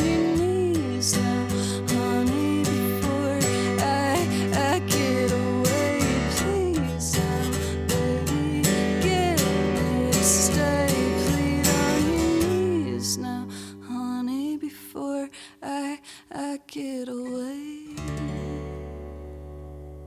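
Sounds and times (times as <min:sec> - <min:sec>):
strummed acoustic guitar: 0:00.0 - 0:14.8, 0:17.9 - 0:20.0.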